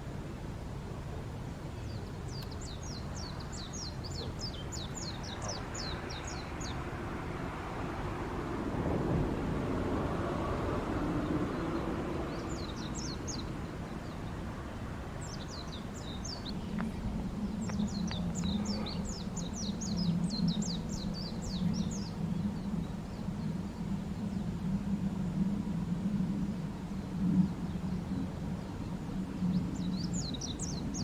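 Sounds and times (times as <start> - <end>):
small birds chirping: 1.6 - 8.4, 10.5 - 24.7, 26.7 - 31.0.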